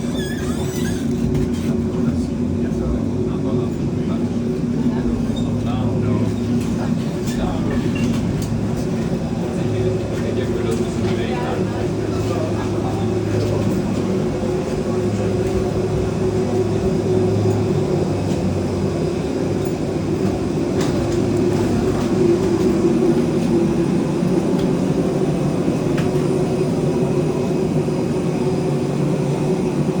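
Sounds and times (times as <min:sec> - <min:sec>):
low mechanical drone: 0:00.0 - 0:30.0.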